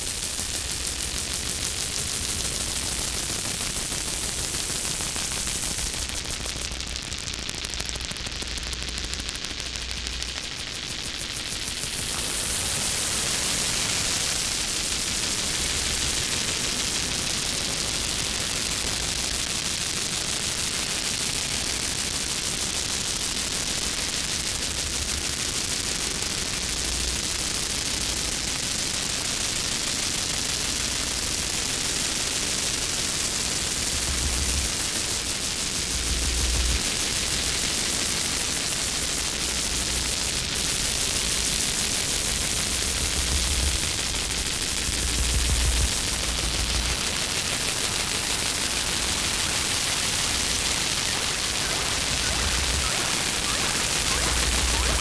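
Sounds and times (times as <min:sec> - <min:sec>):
dense static-like hiss: 0:00.0 - 0:55.0.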